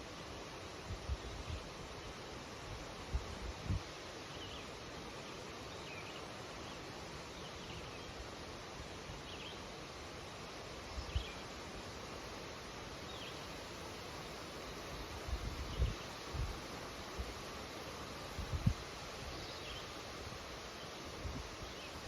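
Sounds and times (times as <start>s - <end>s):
wind rustling leaves: 0.0s - 22.0s.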